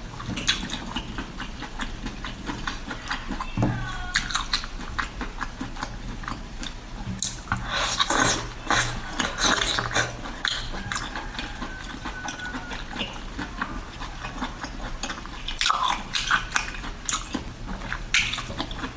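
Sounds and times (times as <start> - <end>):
person biting and chewing seafood: 0.0 - 18.9.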